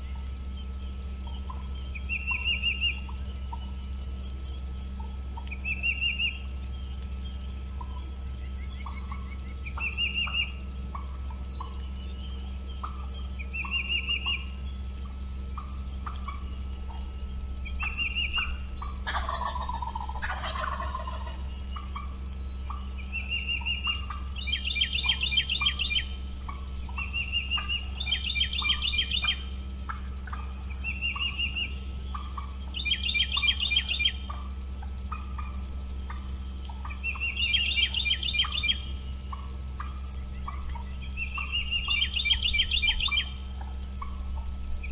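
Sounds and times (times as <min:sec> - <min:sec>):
eagle whistled calls: 0:00.0 - 0:44.9
steady low rumble: 0:00.0 - 0:44.9.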